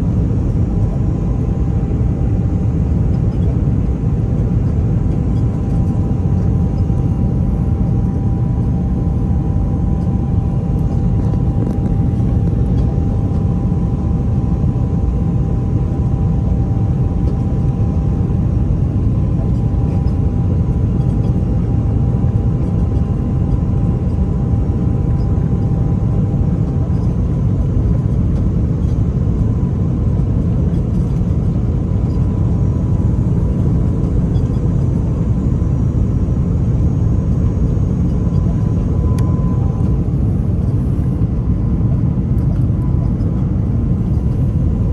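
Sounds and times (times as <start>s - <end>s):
aircraft cabin engine rumble: 0.0s - 44.9s
faint steady whining tones: 0.0s - 44.9s.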